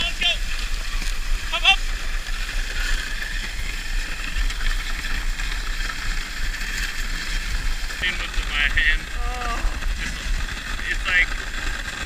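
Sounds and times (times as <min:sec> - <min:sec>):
dog sled running over snow: 0:00.0 - 0:12.0.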